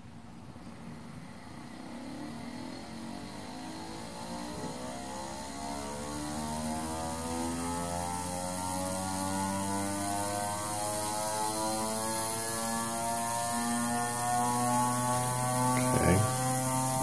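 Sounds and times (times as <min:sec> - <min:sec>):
gyroscope rotor whirring: 0:00.8 - 0:17.0.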